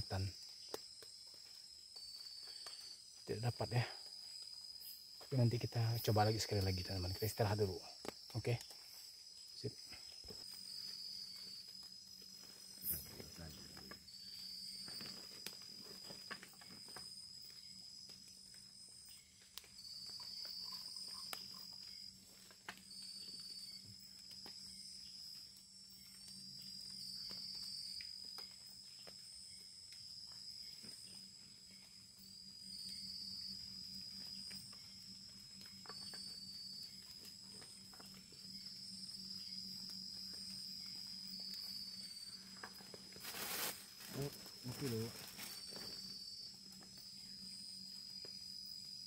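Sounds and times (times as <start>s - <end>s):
insect high-pitched trill: 0.0s - 49.0s
short insect trills: 0.0s - 49.0s.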